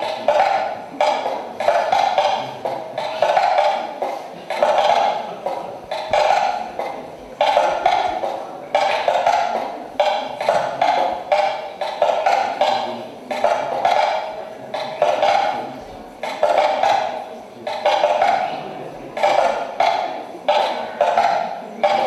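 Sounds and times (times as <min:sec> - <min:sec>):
wood block knocks: 0:00.0 - 0:18.6, 0:19.2 - 0:22.0.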